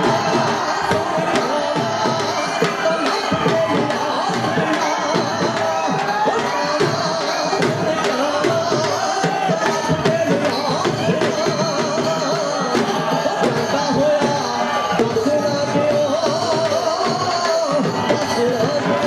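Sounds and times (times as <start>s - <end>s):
dhol drum beats: 0.0s - 19.0s.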